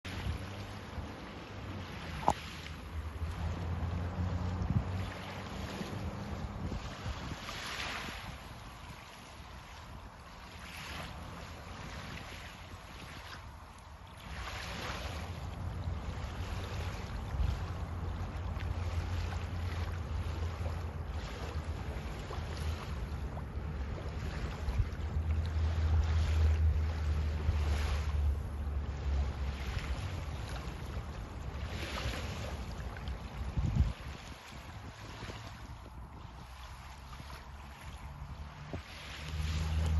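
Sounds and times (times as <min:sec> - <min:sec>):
wind buffeting microphone: 0:00.1 - 0:39.9.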